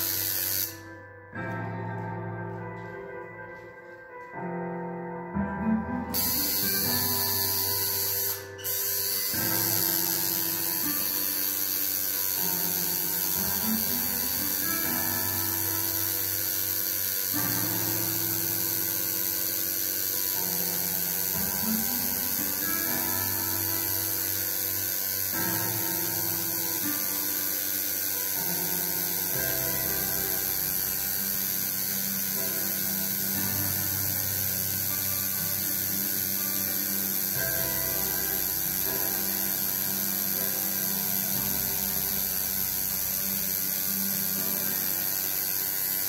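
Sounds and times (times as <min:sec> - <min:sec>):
tattoo machine buzzing: 0:00.0 - 0:01.5, 0:06.0 - 0:46.0.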